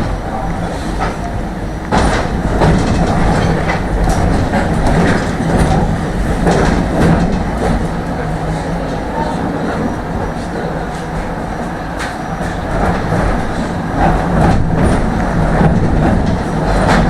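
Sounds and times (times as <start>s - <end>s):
tram wheels and motors rumbling: 0.0s - 17.0s
wheels clattering over rail joints: 0.0s - 17.0s.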